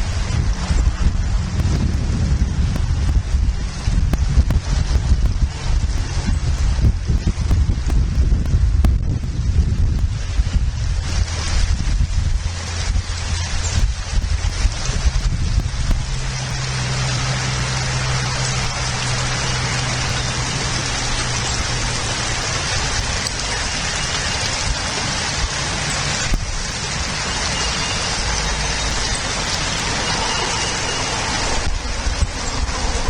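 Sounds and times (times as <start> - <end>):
low hum: 0.0 - 33.0
steady rain-like hiss: 0.0 - 33.0.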